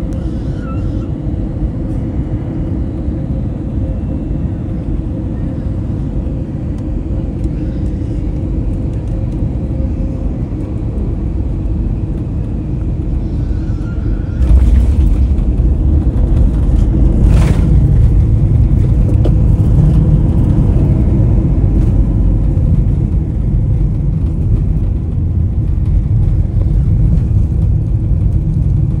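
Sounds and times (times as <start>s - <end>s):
airliner engine and airflow noise: 0.0s - 29.0s
low runway rumble: 0.0s - 29.0s.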